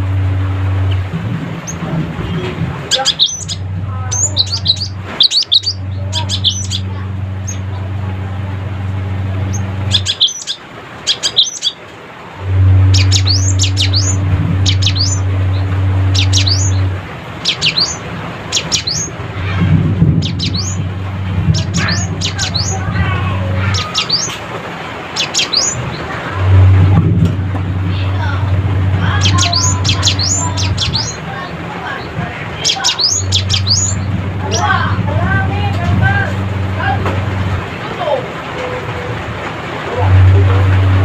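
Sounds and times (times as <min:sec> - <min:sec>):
bird chattering calls: 0:00.0 - 0:11.8, 0:12.4 - 0:24.5, 0:25.1 - 0:37.8
low hum: 0:00.0 - 0:41.0.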